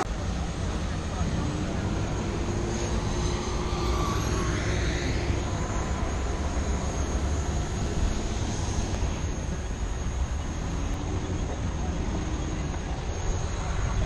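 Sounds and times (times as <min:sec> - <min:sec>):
low rumble: 0:00.0 - 0:14.0
model airplane motor whining: 0:00.2 - 0:14.0.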